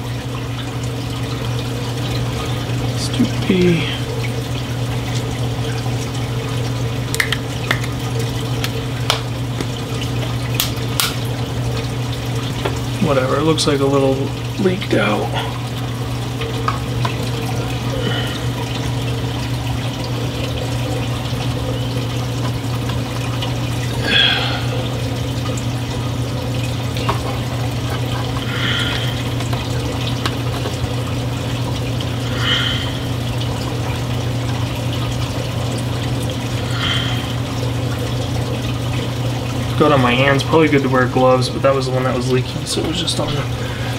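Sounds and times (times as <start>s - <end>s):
pump hum: 0.0s - 43.9s
water rushing in aquarium sump: 0.0s - 43.9s.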